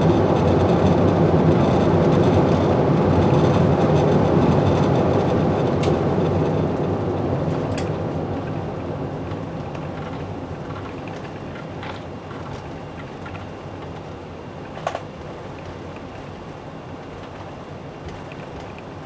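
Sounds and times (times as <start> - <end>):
low rumble of engines and wheels: 0.0 - 19.0
light clicks and rattles in cabin: 0.3 - 19.0.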